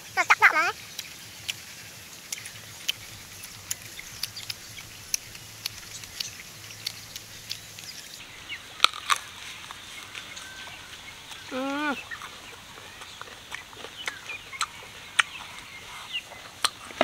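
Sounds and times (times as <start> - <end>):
crunchy mango being chewed: 0.7 - 17.0.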